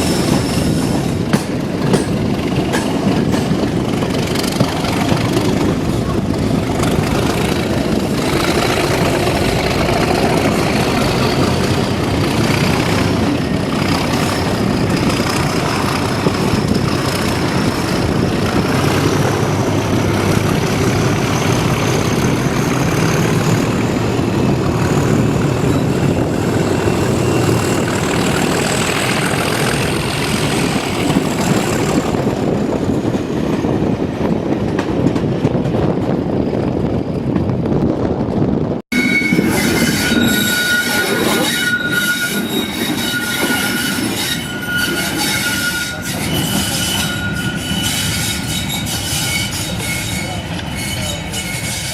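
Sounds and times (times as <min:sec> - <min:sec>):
diesel train engine: 0:00.0 - 0:51.9.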